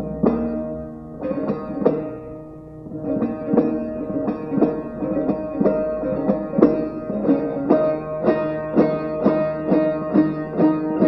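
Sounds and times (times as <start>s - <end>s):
long-necked lute folk tune: 0.0s - 11.0s.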